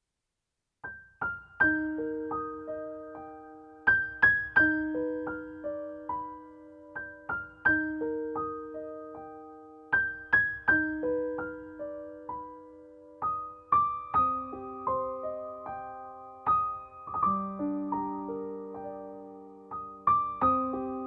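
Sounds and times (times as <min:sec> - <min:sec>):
calm slow piano music: 0:00.8 - 0:21.0.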